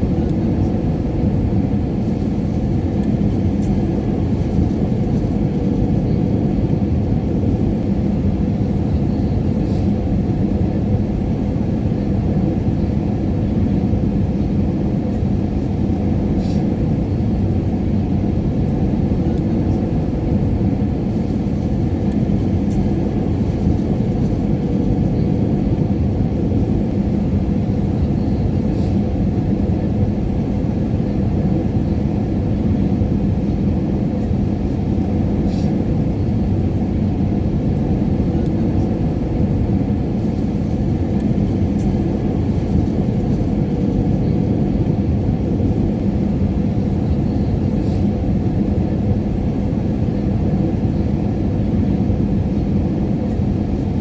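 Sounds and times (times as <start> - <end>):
airliner cabin engine rumble: 0.0 - 54.0
constant low hum: 0.0 - 54.0.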